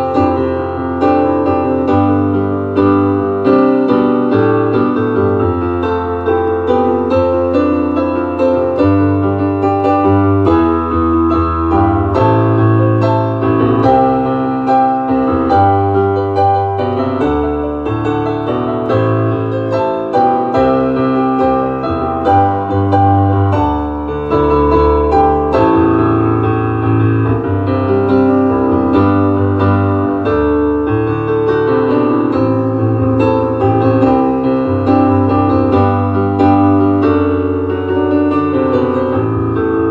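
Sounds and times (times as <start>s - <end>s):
piano piece: 0.0s - 39.9s.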